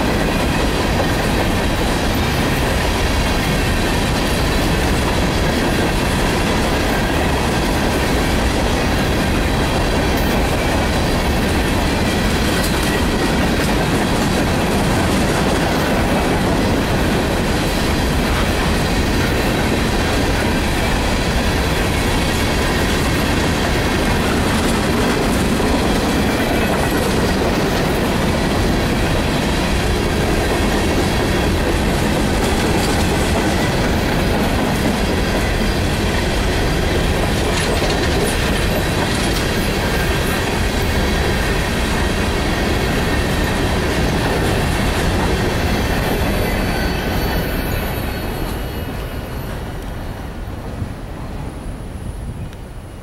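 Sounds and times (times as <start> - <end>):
train wheels rolling on rails: 0.0 - 53.0.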